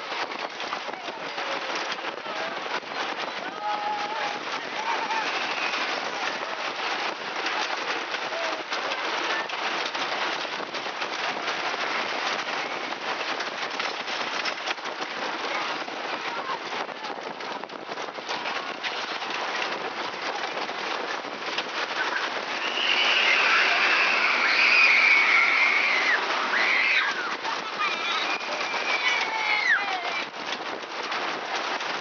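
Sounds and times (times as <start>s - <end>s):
roller coaster wheels rattling: 0.0s - 32.0s.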